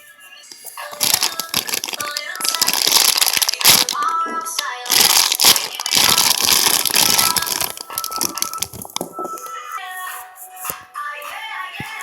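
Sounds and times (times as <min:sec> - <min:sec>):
background music: 0:00.0 - 0:12.0
plastic packaging crinkling: 0:00.3 - 0:10.5.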